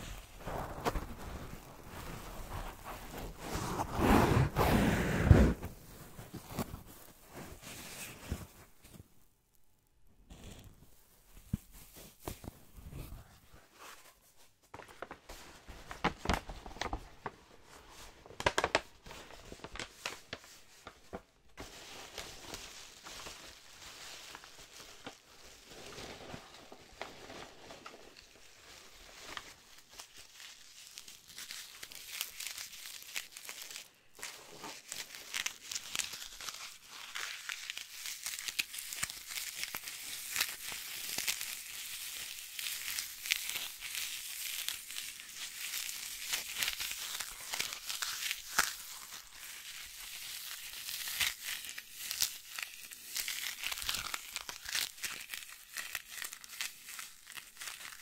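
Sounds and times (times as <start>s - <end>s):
packaging material crinkling: 0.0s - 3.9s, 14.8s - 58.0s.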